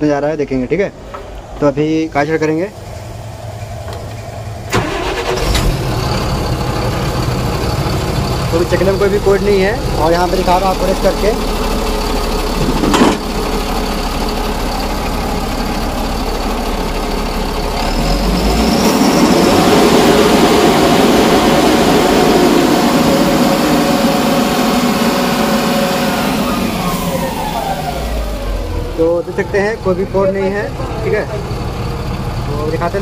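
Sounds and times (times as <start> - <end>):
diesel engine idling and revving: 0.8 - 33.0
high turbo whine: 0.8 - 33.0.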